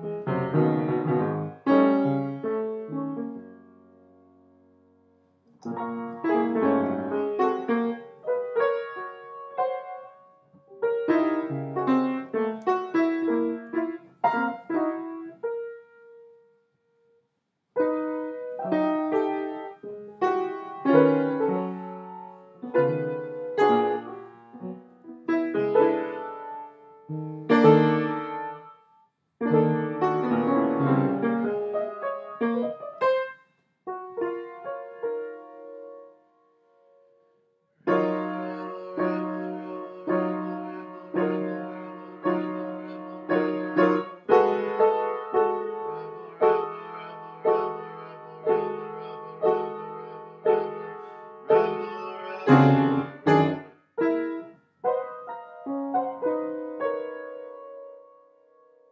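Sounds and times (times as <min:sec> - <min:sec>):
piano music: 0:00.0 - 0:04.4, 0:05.6 - 0:16.5, 0:17.8 - 0:28.8, 0:29.4 - 0:33.3, 0:33.9 - 0:36.2, 0:37.8 - 0:58.9.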